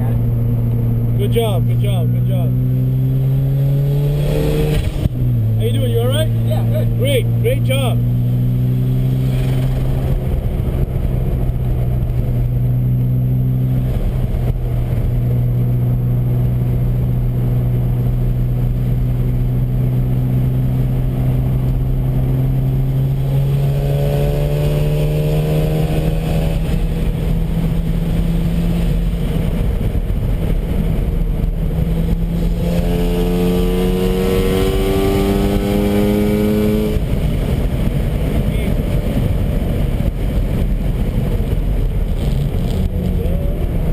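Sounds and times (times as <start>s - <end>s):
road and wind noise: 0.0s - 43.9s
rotary engine accelerating: 0.0s - 43.9s.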